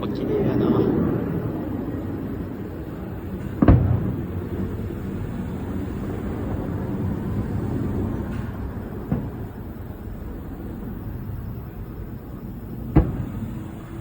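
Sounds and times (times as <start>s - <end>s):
firework boom: 0.8s - 14.0s.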